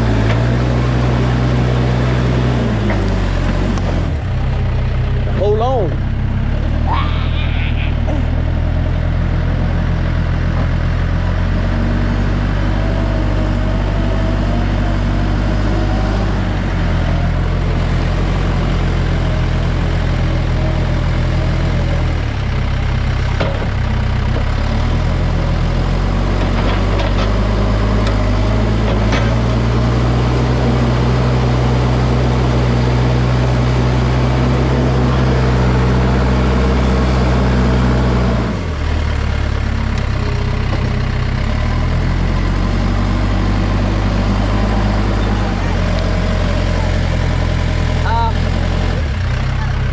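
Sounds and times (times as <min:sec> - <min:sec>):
backhoe engine idling: 0:00.0 - 0:49.9.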